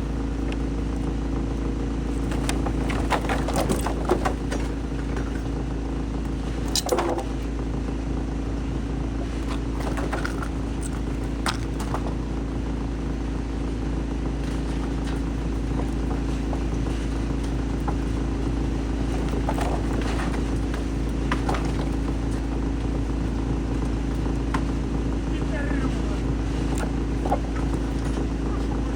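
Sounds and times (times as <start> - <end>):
wood shredder running: 0.0 - 28.9.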